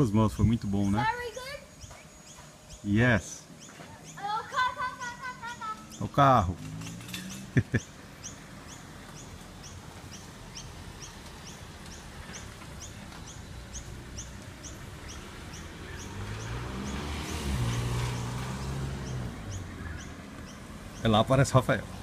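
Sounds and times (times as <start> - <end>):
car engine hum passing: 0.7 - 22.0.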